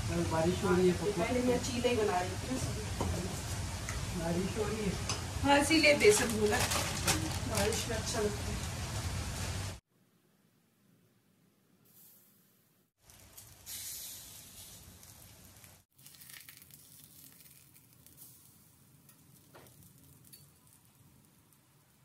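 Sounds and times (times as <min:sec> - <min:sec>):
bread sizzling on griddle: 0:00.0 - 0:09.8, 0:13.0 - 0:22.0.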